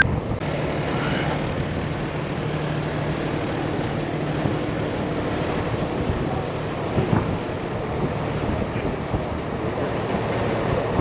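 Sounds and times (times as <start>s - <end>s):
heavy truck engine running: 0.0s - 11.0s.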